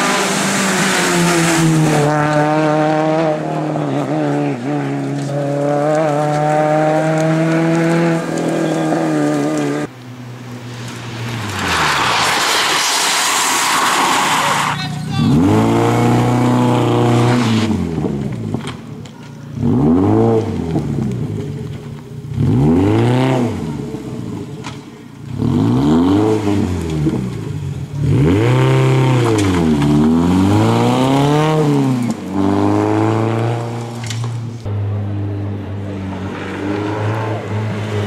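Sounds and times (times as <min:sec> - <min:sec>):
rally car engine revving: 0:00.0 - 0:09.9, 0:10.6 - 0:38.0.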